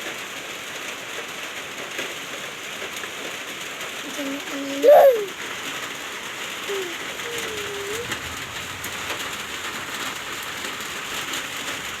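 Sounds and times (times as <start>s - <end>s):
falling water pattering: 0.0s - 12.0s.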